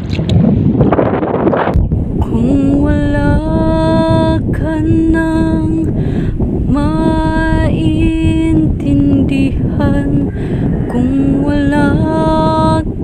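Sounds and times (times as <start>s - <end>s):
low rushing noise: 0.0s - 13.0s
woman singing ballad: 2.2s - 13.0s.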